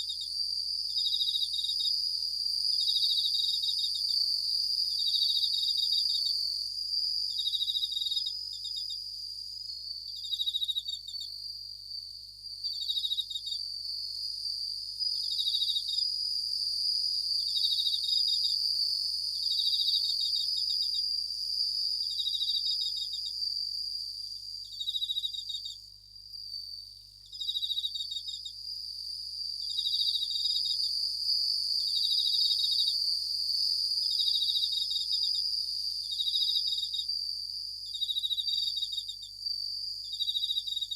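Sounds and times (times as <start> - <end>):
crickets chirping pulsed trills: 0.0 - 40.9
high-pitched insect trill: 0.0 - 40.9.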